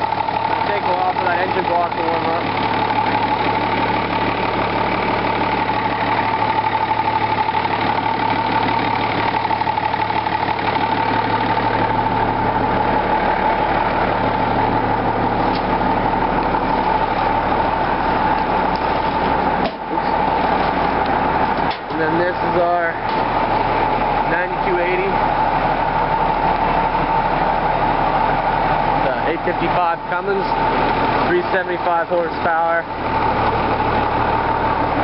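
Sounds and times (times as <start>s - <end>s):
diesel tractor engine idling: 0.0s - 35.0s.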